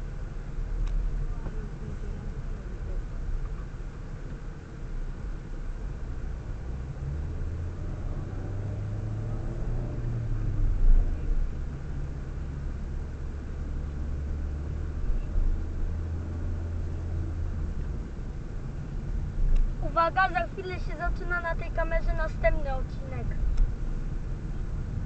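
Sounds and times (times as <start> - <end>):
car engine drone: 0.0 - 25.0
road rumble inside car: 0.0 - 25.0.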